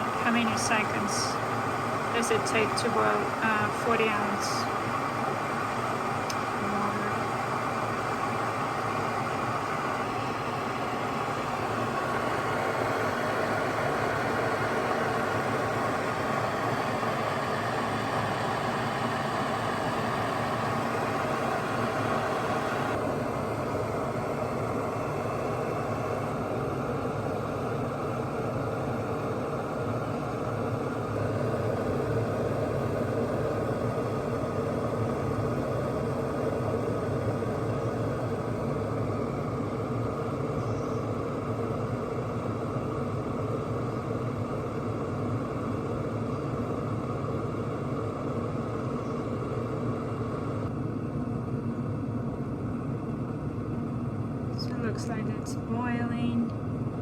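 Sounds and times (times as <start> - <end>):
kettle water rushing: 0.0 - 50.6.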